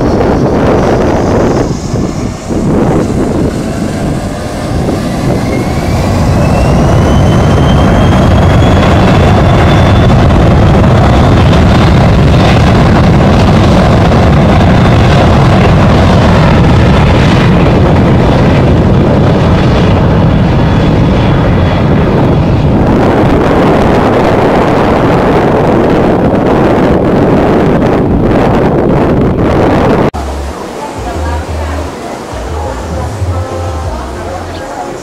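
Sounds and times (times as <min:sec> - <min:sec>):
jet engines rumbling: 0:00.0 - 0:35.0
wind buffeting microphone: 0:00.0 - 0:35.0.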